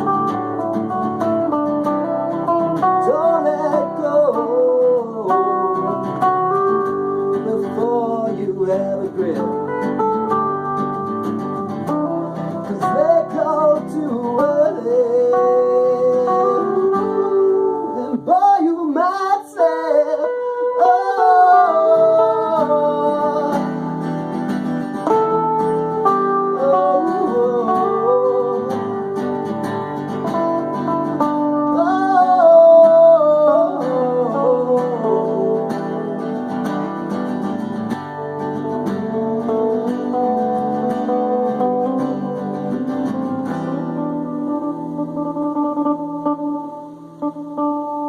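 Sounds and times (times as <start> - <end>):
plucked guitar chords: 0.0 - 48.0.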